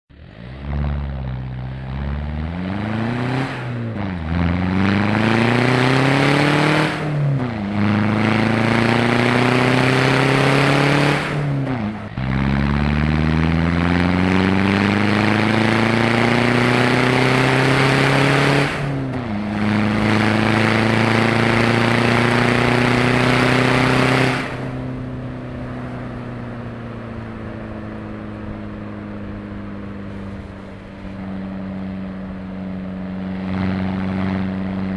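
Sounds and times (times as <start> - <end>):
diesel car engine accelerating: 0.1 - 34.9.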